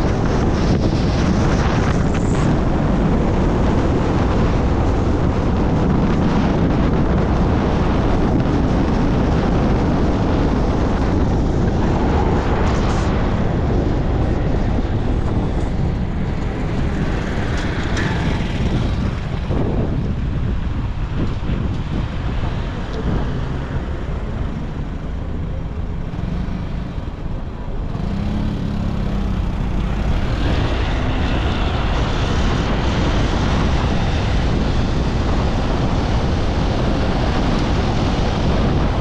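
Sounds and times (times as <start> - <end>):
road and wind noise from vehicle: 0.0 - 39.0.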